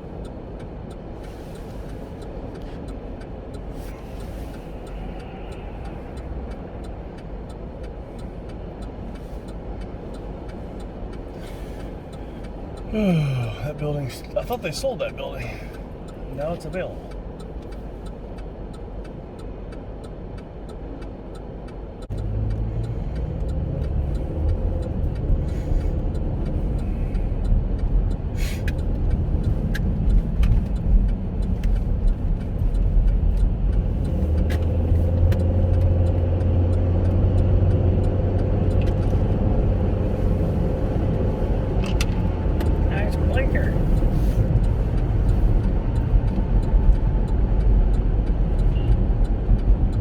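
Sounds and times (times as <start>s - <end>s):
car cabin road and engine rumble: 0.0s - 50.0s.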